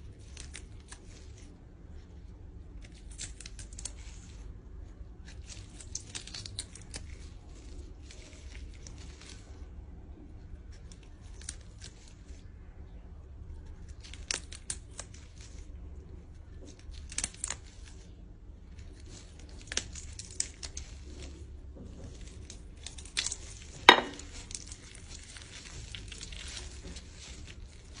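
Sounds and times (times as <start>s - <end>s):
snipping and tearing chicken feet: 0.1s - 1.6s, 2.4s - 9.5s, 10.4s - 12.4s, 13.6s - 15.8s, 16.4s - 28.0s.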